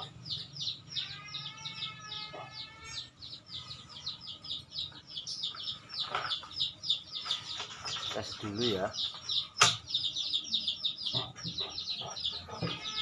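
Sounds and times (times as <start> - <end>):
chicken calling: 0.0 - 13.0
small bird chirping: 0.0 - 13.0.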